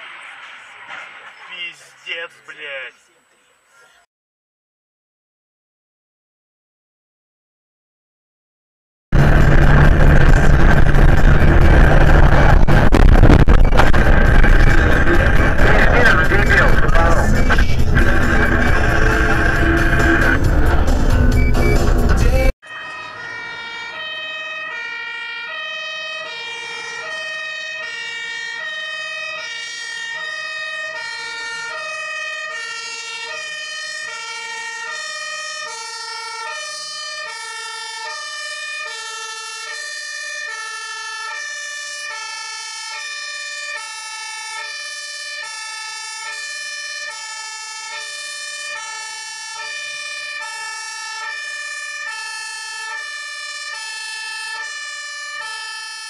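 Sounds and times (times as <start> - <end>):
fire engine two-tone siren: 9.1 - 22.0, 22.6 - 56.0.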